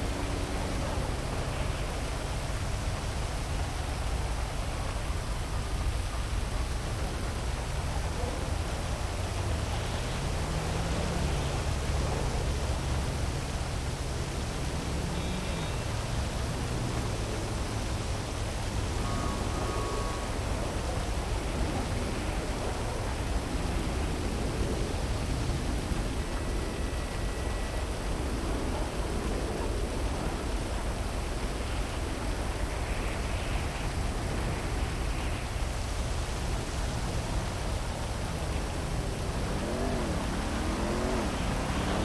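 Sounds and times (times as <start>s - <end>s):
heavy rain: 0.0s - 42.0s
traffic hum: 0.0s - 42.0s.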